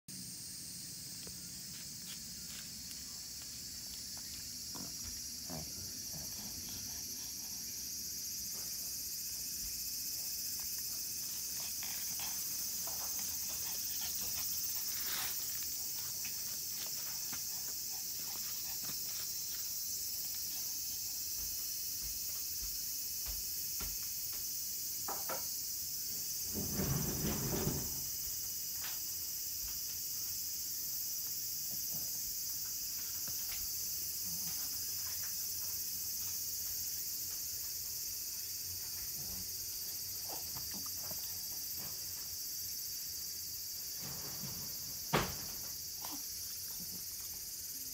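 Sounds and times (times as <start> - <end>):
insects chirping: 0.1 - 47.9.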